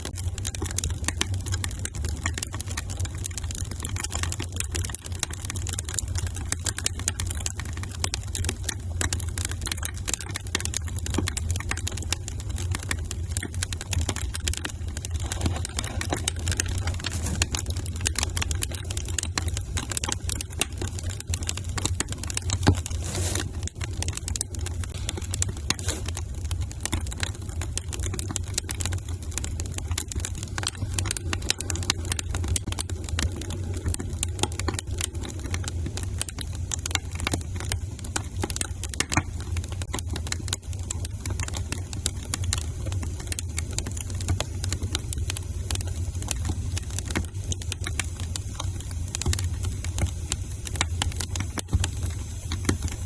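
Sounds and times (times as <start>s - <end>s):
low fire rumble: 0.0s - 53.0s
wood fire crackling: 0.0s - 53.0s.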